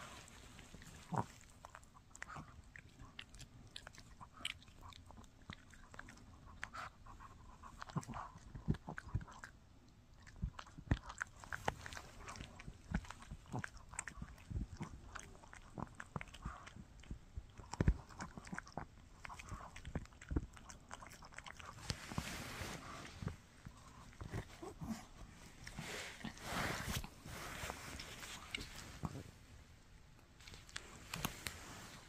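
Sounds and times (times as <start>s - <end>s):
dog chewing a chew stick: 0.2s - 27.2s.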